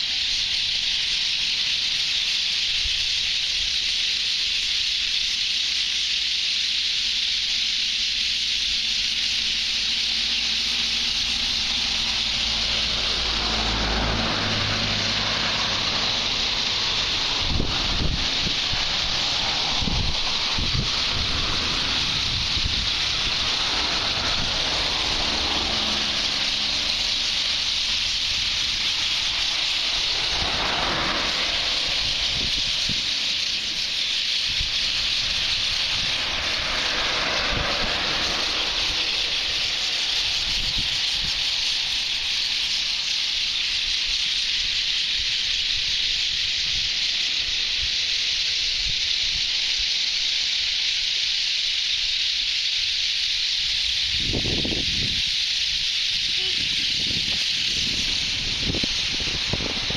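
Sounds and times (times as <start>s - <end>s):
huge flock of birds calling: 0.0s - 59.9s.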